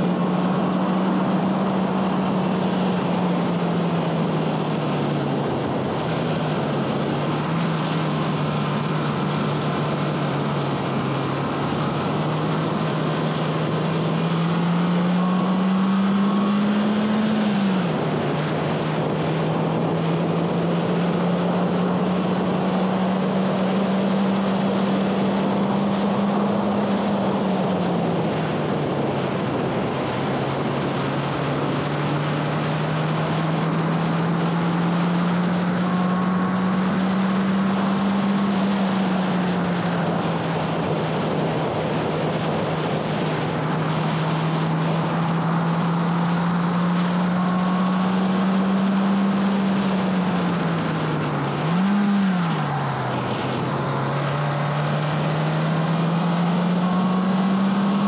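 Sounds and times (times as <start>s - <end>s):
car engine revving hard: 0.0s - 58.0s
wind and road noise: 0.0s - 58.0s.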